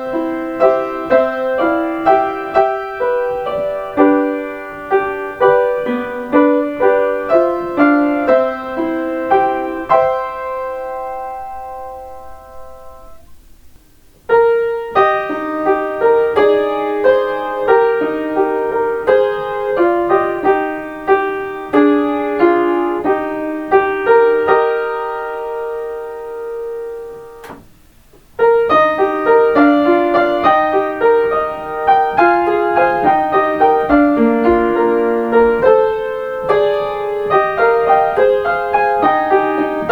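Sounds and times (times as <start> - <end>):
solo piano melodies: 0.0 - 39.9.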